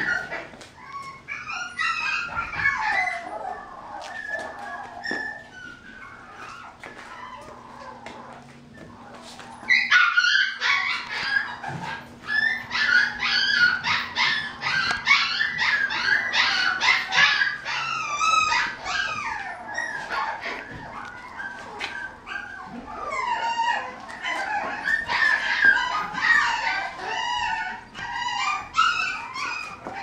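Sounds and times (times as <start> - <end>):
puppy yipping and whining: 0.0 - 30.0.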